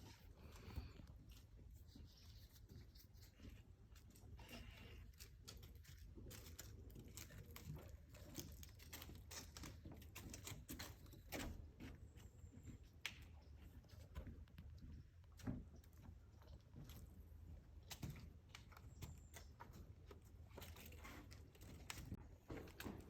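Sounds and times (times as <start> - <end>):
faint clicks and rustles: 0.0 - 23.0.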